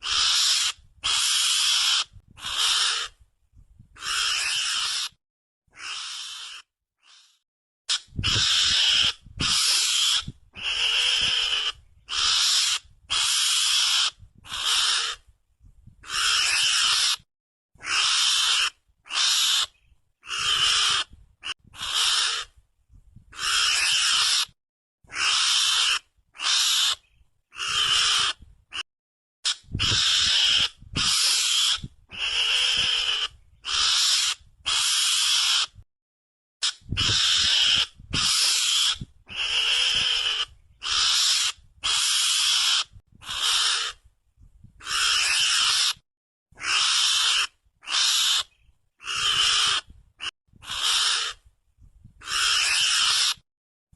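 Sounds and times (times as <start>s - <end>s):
mongoose hissing call: 0.0s - 3.2s, 4.0s - 5.2s, 5.8s - 15.2s, 16.0s - 17.2s, 17.8s - 21.1s, 21.8s - 22.5s, 23.3s - 24.5s, 25.1s - 28.8s, 29.4s - 35.8s, 36.6s - 44.0s, 44.8s - 46.0s, 46.6s - 51.4s, 52.2s - 53.4s.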